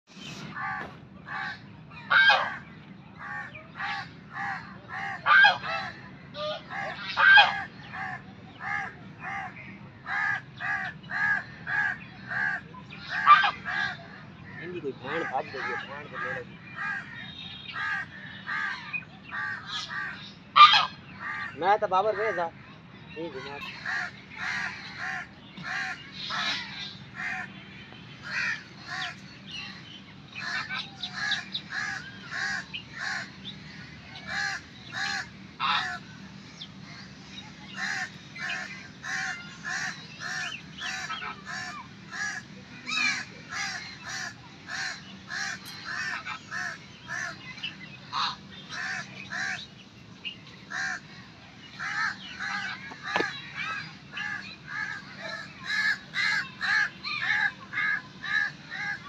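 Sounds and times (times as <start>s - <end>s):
harsh caw-like bird calls: 0.1s - 49.8s, 50.6s - 59.0s.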